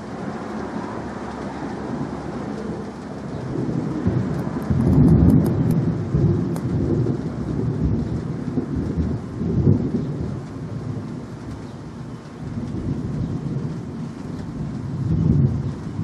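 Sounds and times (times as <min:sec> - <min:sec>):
light rain: 0:00.0 - 0:16.0
thunder rumbling: 0:00.0 - 0:16.0.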